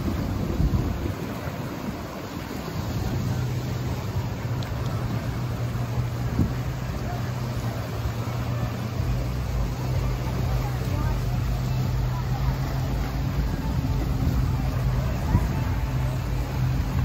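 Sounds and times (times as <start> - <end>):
low engine hum: 0.0 - 17.0
outdoor background noise: 0.0 - 17.0.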